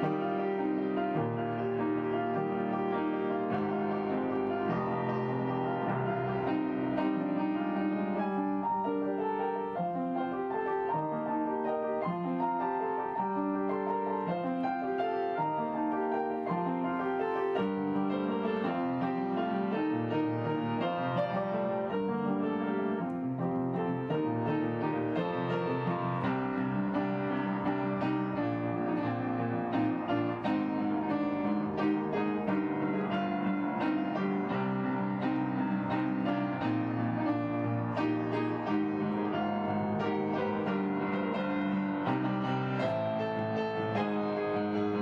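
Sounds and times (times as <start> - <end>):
slow solo piano melody: 0.0 - 45.0.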